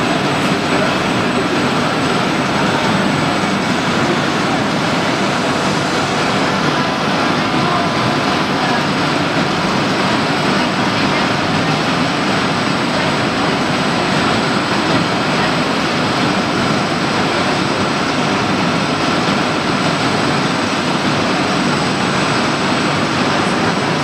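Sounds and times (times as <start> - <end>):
machinery running: 0.0 - 24.0.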